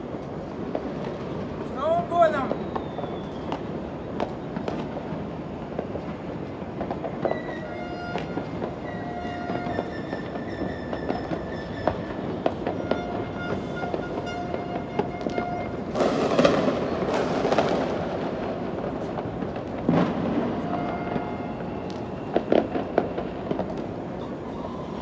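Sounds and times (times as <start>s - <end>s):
big firework bursts: 0.0s - 25.0s
fireworks popping and cracking: 0.0s - 25.0s.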